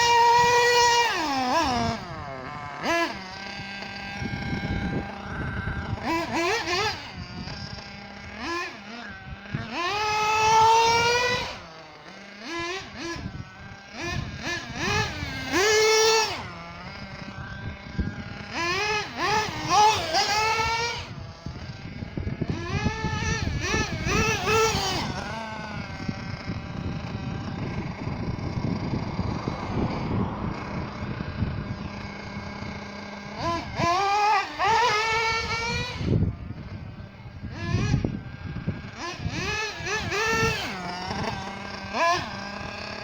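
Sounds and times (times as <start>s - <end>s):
engine running roughly: 0.0s - 43.0s
rc buggy engine revving: 0.0s - 43.0s.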